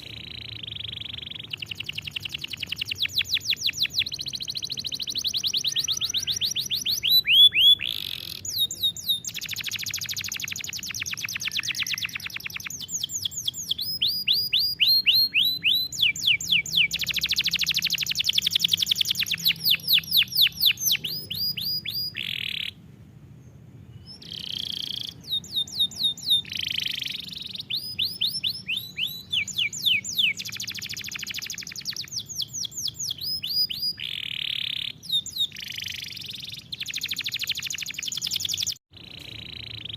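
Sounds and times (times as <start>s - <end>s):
canary singing trills: 0.0s - 22.8s, 23.4s - 39.9s.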